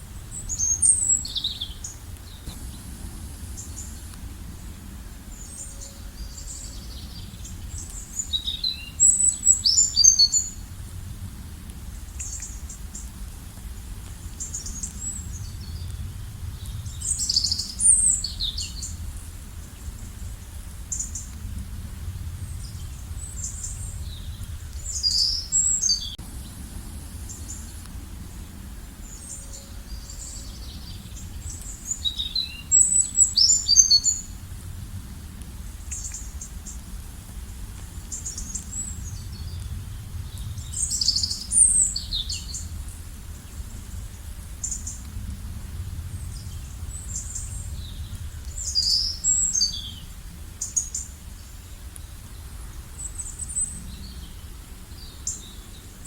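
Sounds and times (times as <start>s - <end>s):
low background rumble: 0.0s - 56.0s.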